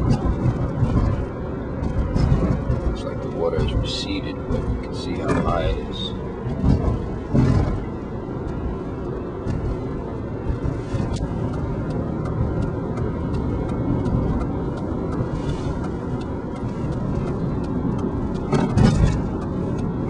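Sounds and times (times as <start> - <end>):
car interior road rumble: 0.0 - 20.0.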